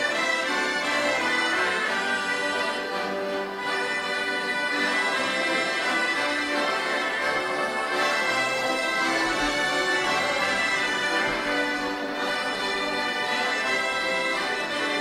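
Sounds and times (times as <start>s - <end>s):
accordions playing folk dance tune: 0.0s - 15.0s.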